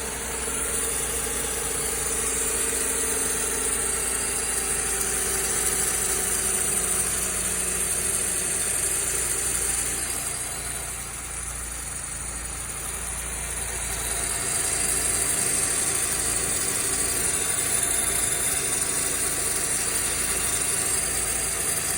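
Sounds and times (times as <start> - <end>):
car engine idling with rattle: 0.0 - 21.9.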